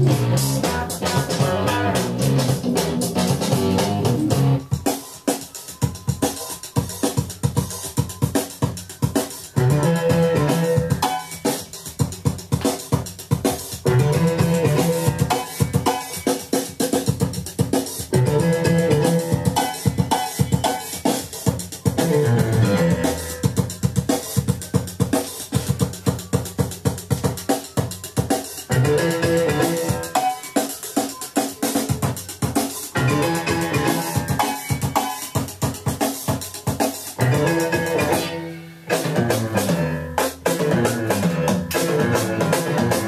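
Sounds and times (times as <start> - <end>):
pitched instruments: 0.0 - 12.5, 13.2 - 43.0
drum kit steady beat: 0.0 - 43.0.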